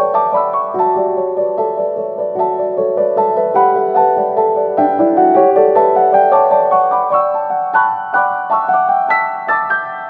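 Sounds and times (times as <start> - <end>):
piano melody with chords: 0.0 - 10.0.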